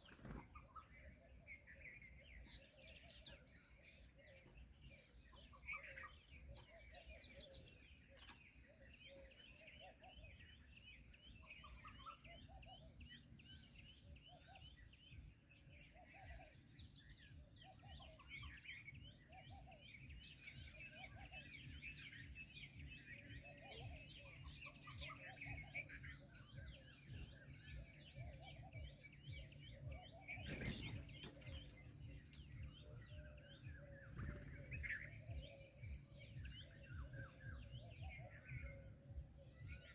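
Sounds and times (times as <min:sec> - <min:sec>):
low round bird calls: 0:00.0 - 0:39.9
small birds chirping: 0:00.0 - 0:39.9.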